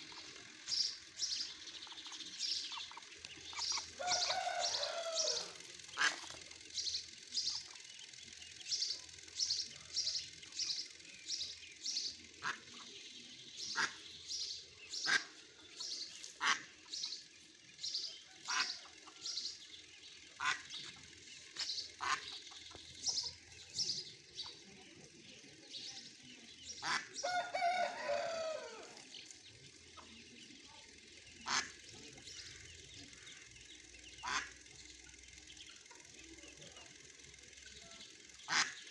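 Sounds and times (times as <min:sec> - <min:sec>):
ducklings peeping: 0:00.0 - 0:38.9.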